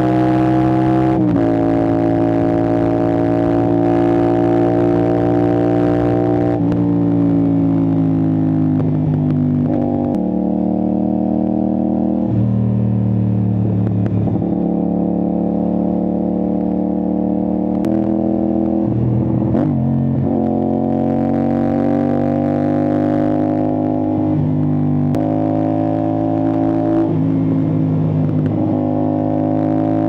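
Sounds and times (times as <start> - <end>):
motorcycle engine at speed: 0.0 - 30.0.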